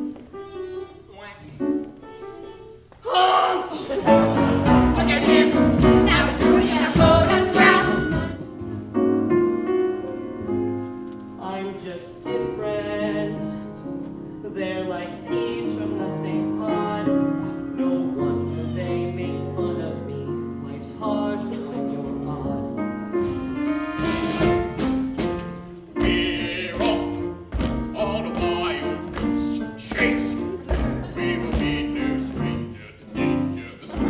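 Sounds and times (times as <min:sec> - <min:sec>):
musical theatre song: 0:00.0 - 0:34.0.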